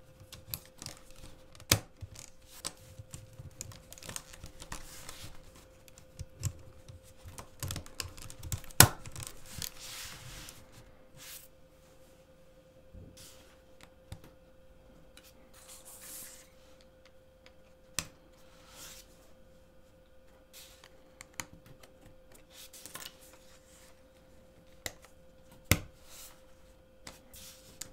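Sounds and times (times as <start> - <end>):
faint steady hum: 0.0 - 27.9.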